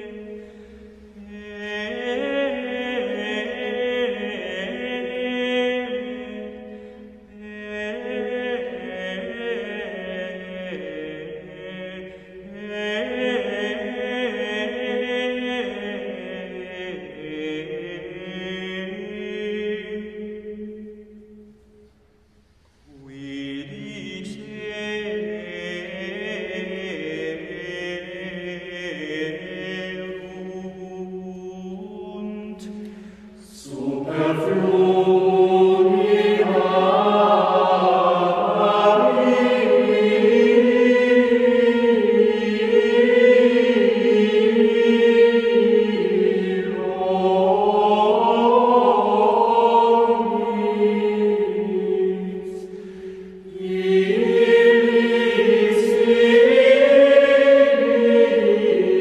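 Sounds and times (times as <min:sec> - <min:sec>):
choir singing long held notes: 0:00.0 - 0:21.9, 0:22.8 - 0:59.0.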